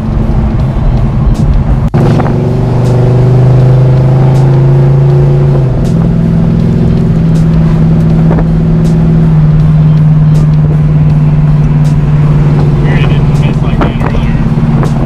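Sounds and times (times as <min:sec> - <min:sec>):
car engine running from inside cabin: 0:00.0 - 0:15.0.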